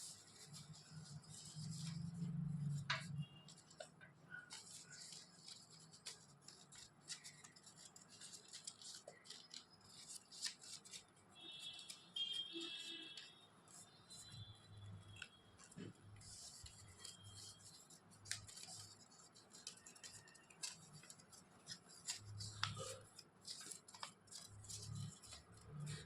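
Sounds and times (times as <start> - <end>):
paper rustling and crinkling: 0.0 - 26.0.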